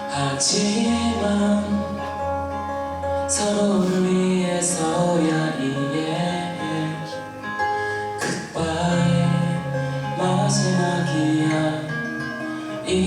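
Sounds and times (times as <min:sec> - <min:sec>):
live band song with guitar: 0:00.0 - 0:13.0.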